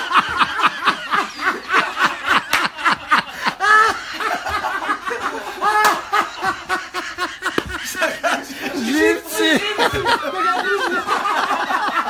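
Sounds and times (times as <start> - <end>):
high drawn-out laugh: 0.0 - 12.0
men laughing hard: 0.0 - 12.0.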